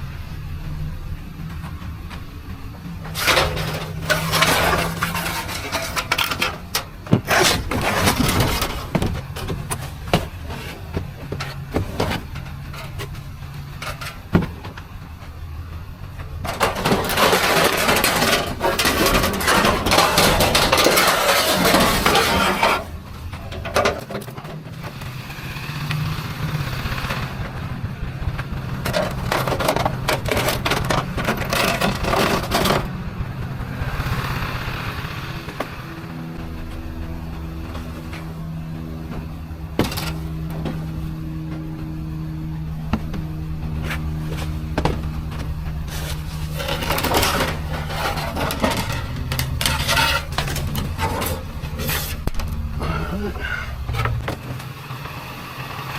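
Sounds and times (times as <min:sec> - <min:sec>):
steady low hum: 0:00.0 - 0:54.9
knocks and clatter of scrap: 0:01.4 - 0:55.7.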